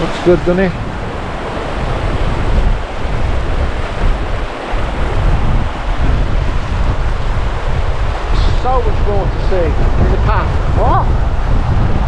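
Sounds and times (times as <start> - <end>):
waterfall rushing: 0.0 - 12.0
wind gusting on microphone: 0.0 - 12.0.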